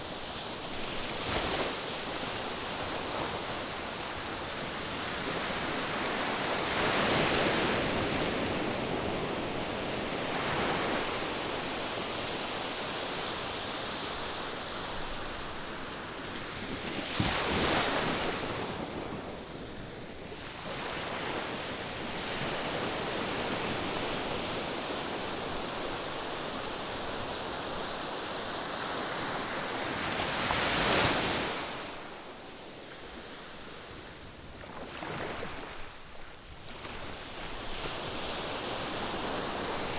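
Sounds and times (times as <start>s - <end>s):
waves crashing on a beach: 0.0s - 39.9s.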